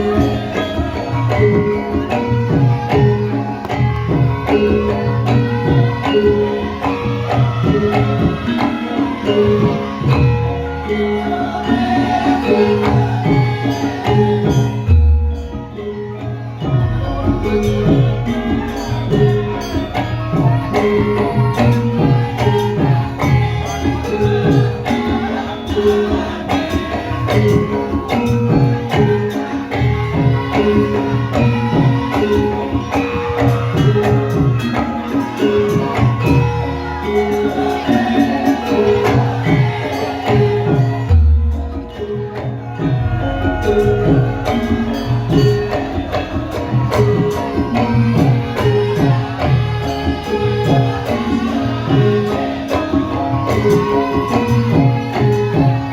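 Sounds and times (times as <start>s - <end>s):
hand drums: 0.0s - 55.9s
tuned metal percussion: 0.0s - 55.9s.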